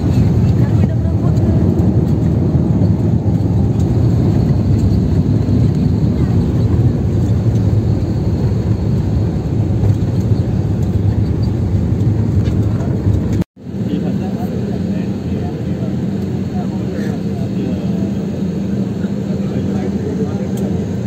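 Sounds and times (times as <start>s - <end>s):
jet cabin rumble: 0.0s - 21.0s.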